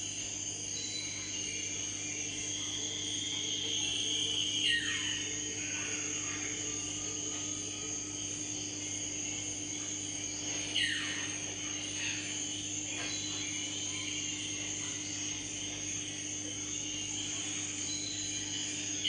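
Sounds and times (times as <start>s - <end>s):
aquarium filter pump humming: 0.0s - 19.0s.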